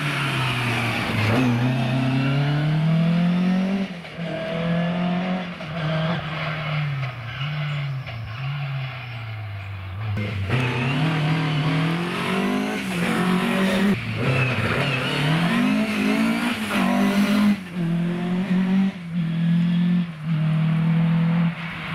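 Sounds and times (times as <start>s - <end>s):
rally car engine passing: 0.0s - 21.9s.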